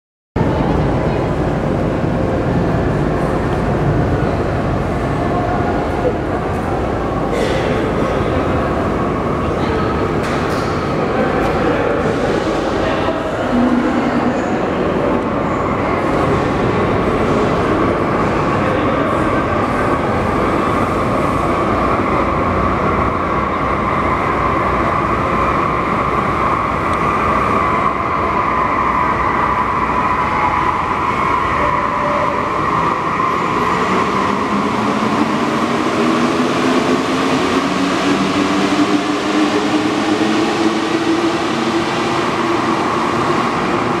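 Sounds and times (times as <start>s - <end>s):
metro train running: 0.4s - 44.0s.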